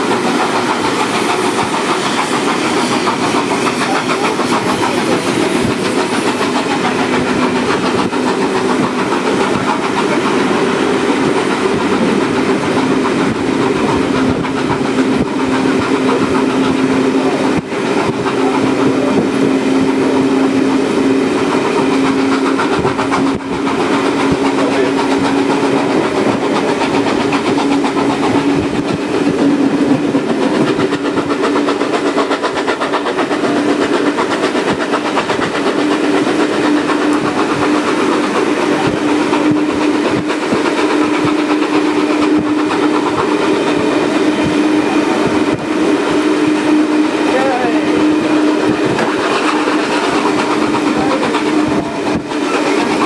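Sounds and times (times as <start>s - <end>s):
wheels clattering over rails: 0.0s - 53.0s.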